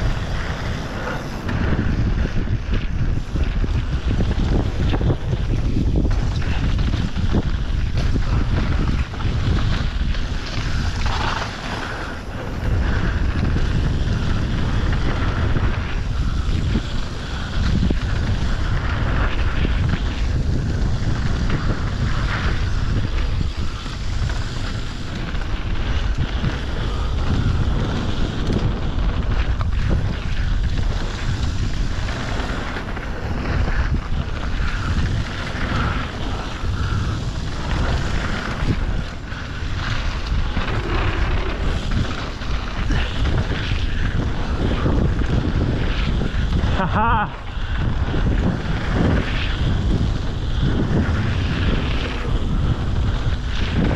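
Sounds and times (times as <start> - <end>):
bike tyres rolling over dirt: 0.0 - 53.9
wind buffeting microphone: 0.0 - 53.9.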